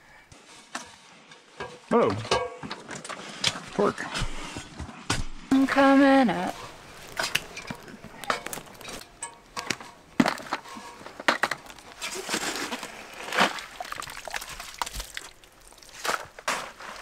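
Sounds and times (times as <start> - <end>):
soil and twigs being dug: 3.3 - 17.0.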